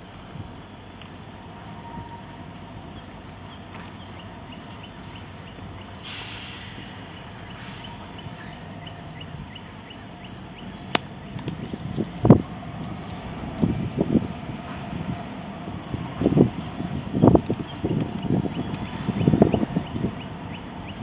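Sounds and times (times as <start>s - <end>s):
freight locomotive rumbling: 0.0s - 21.0s.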